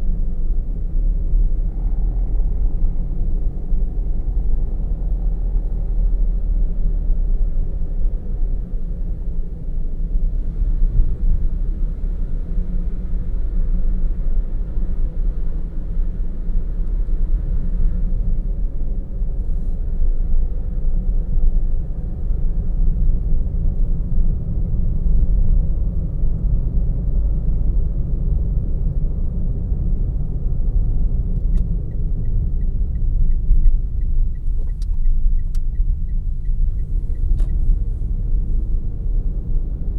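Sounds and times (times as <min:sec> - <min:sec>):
car road rumble inside cabin: 0:00.0 - 0:39.9.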